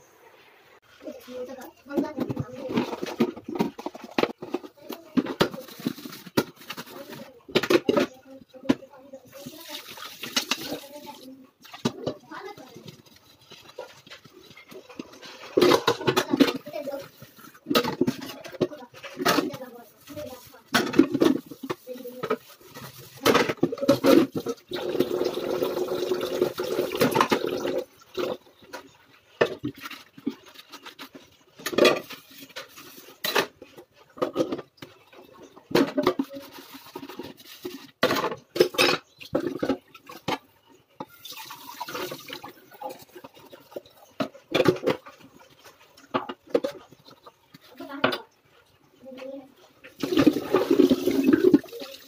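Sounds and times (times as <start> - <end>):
sponge scrubbing dishes: 0.8 - 52.0.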